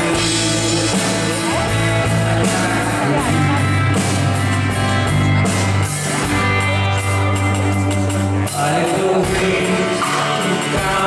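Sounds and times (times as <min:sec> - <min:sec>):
electric guitar: 0:00.0 - 0:11.0
low bass notes: 0:00.0 - 0:11.0
steady drum beat: 0:00.0 - 0:11.0
strummed acoustic guitars: 0:00.0 - 0:11.0.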